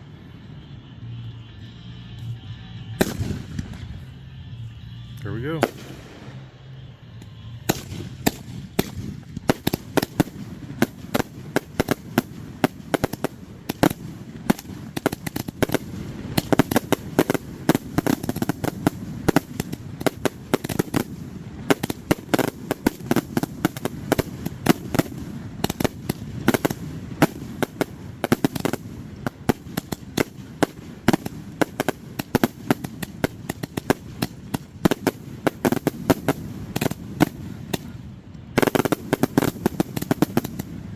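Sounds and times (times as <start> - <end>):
fireworks cracking and booming: 0.0 - 40.9.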